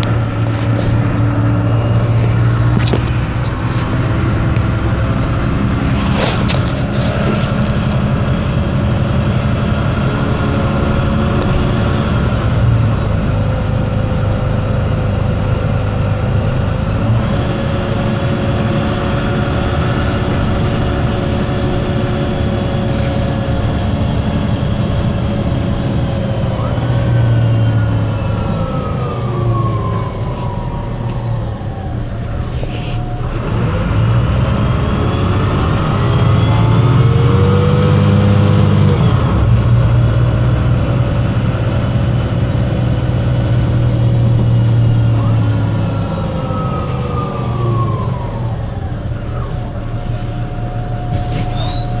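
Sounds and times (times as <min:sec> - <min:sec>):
bus diesel engine drone: 0:00.0 - 0:52.0
gearbox whine: 0:00.0 - 0:52.0.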